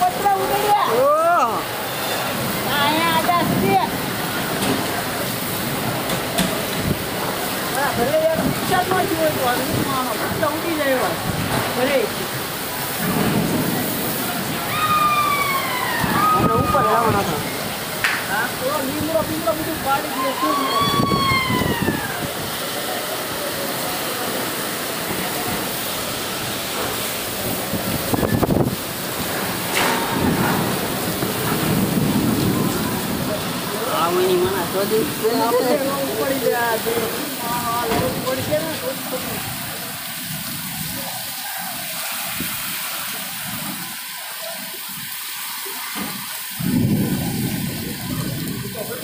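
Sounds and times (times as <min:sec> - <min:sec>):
rain: 0:00.0 - 0:49.0
storm wind: 0:00.0 - 0:49.0.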